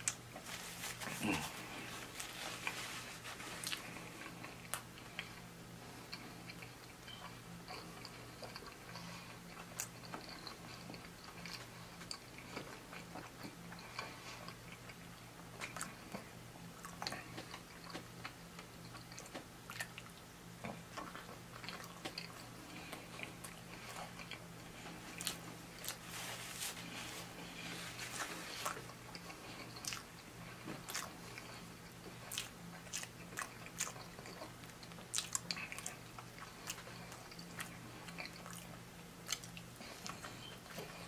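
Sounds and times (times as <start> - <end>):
low steady hum: 0.0 - 41.0
person chewing: 0.0 - 41.0.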